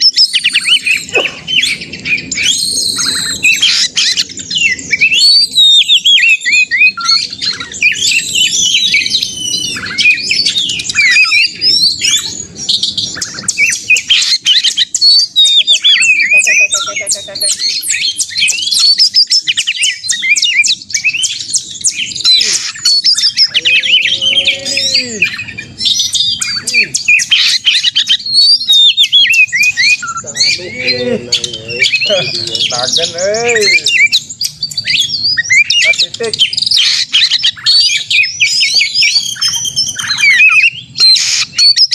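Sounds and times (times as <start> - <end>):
magpie-robin singing: 0.0 - 41.9.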